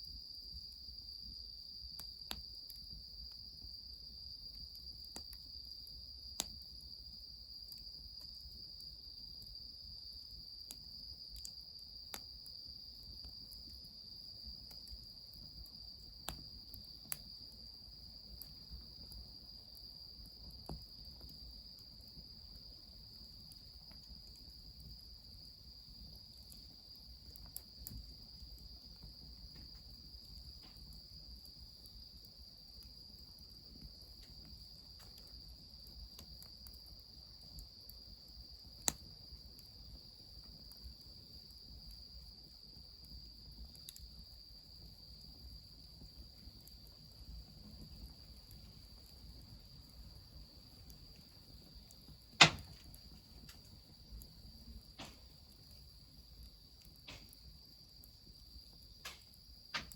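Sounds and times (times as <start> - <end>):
insects trilling: 0.1 - 59.9
wood fire crackling and popping: 1.9 - 59.9.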